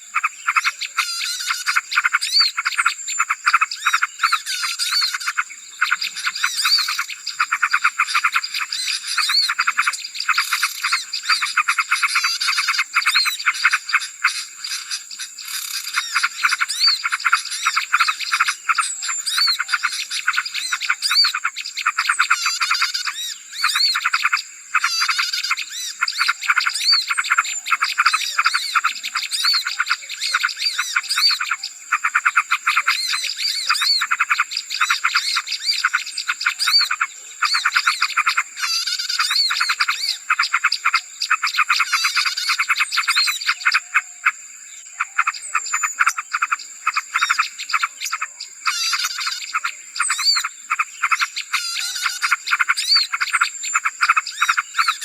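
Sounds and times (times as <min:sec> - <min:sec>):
songbirds chattering and chirping: 0:00.0 - 0:55.0.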